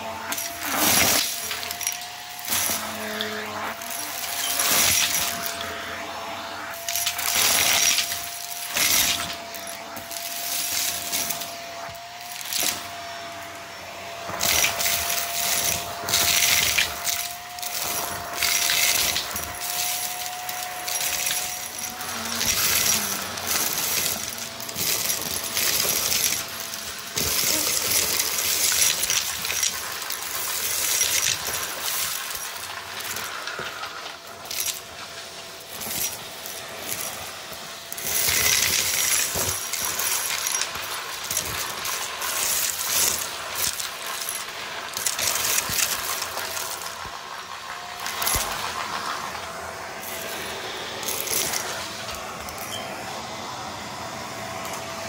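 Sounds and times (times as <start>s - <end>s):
debris rattling in vacuum cleaner: 0.0s - 55.0s
vacuum cleaner whine: 0.0s - 55.0s.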